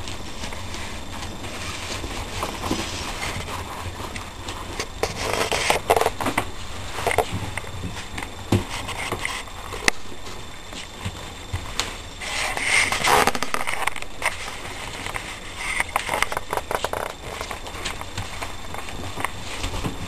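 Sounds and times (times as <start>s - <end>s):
paper rustling and crackling: 0.0s - 20.0s.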